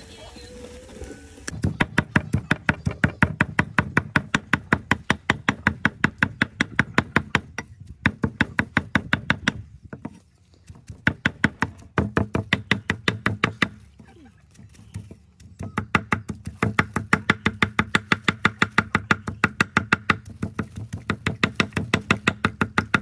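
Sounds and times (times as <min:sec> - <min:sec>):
cleaver chopping on wooden block: 0:01.5 - 0:14.0, 0:14.7 - 0:23.0.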